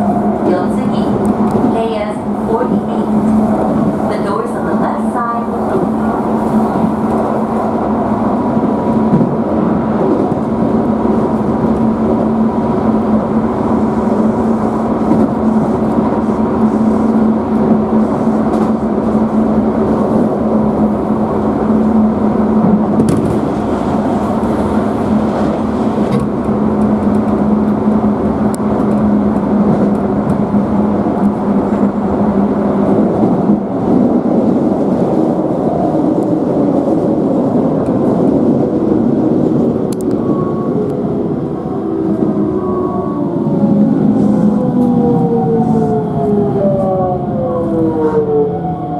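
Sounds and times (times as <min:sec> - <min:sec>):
oncoming train passing: 0:00.0 - 0:48.9
train rumble inside car: 0:00.0 - 0:48.9.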